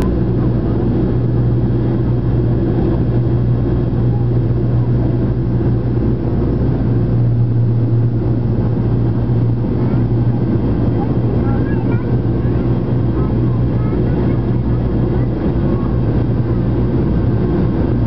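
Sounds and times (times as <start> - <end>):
aircraft cabin engine drone: 0.0 - 18.0.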